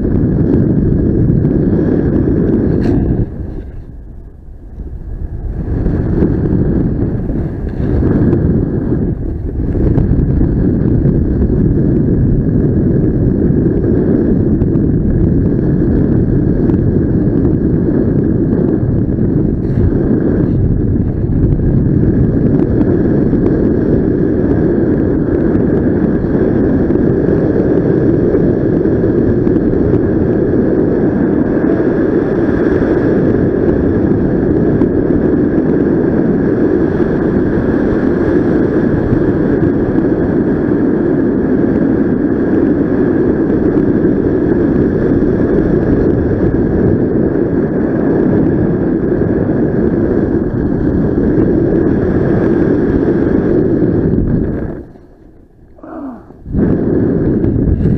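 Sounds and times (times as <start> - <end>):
wind roar on microphone: 0.0 - 57.9.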